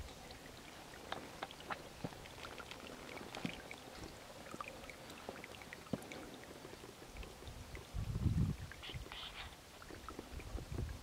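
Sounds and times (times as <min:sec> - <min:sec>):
faint steady hiss: 0:00.0 - 0:11.0
water trickling and dripping: 0:00.0 - 0:11.0.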